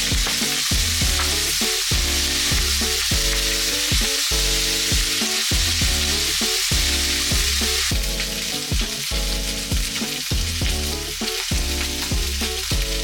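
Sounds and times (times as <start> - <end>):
background music: 0.0 - 13.0
food sizzling in a pan: 0.0 - 13.0.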